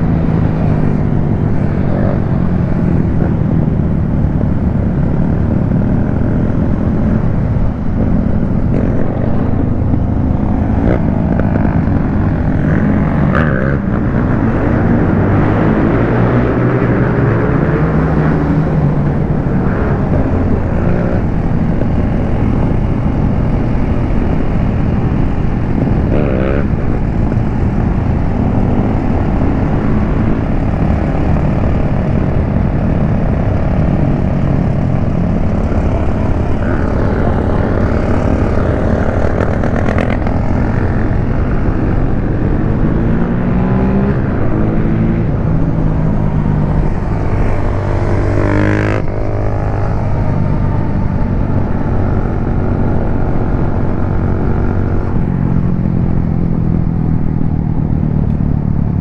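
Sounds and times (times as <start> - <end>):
motorcycle engine revving: 0.0 - 59.0
wind noise: 0.0 - 59.0.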